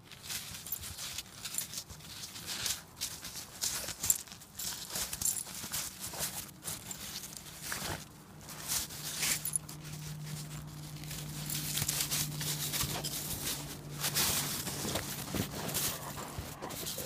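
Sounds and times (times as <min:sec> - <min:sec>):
snow crunching under a dog: 0:00.1 - 0:17.0.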